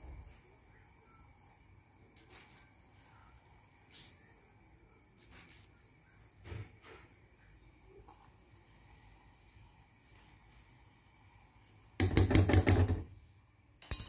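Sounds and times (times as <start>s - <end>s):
flour pouring soft hisses: 0.0s - 12.0s.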